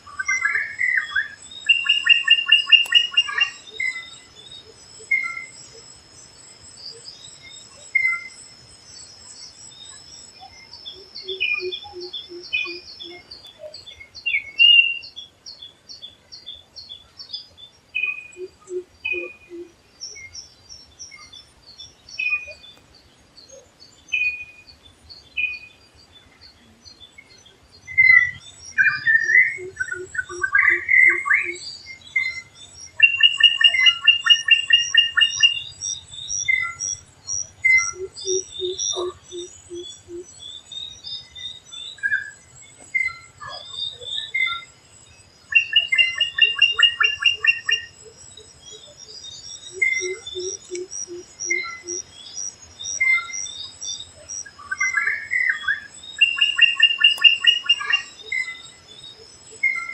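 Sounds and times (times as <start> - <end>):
birds whistling and trilling: 0.1 - 5.8, 10.2 - 22.8, 23.4 - 44.8, 45.4 - 59.9.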